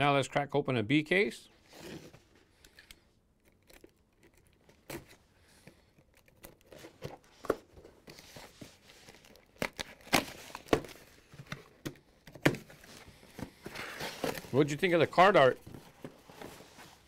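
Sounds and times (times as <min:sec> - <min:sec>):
tape crackling: 0:02.6 - 0:16.5.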